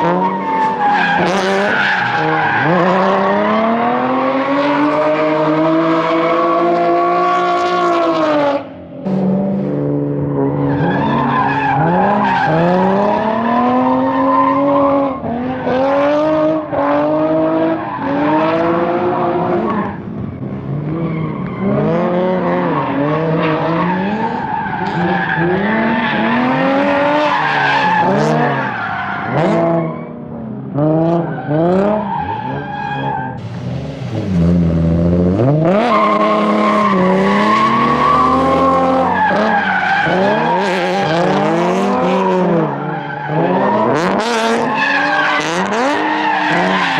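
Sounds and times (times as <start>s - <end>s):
tyres squealing and skidding: 0.0s - 8.5s, 10.3s - 30.2s, 31.1s - 46.9s
car engine revving: 0.0s - 46.9s.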